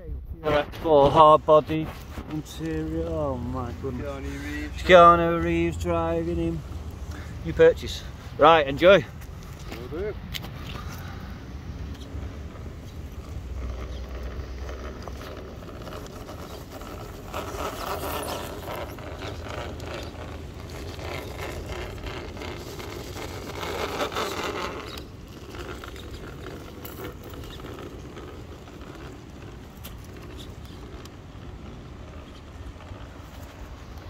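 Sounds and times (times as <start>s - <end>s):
tyres scraping on stone: 0.4s - 8.1s, 11.9s - 34.0s.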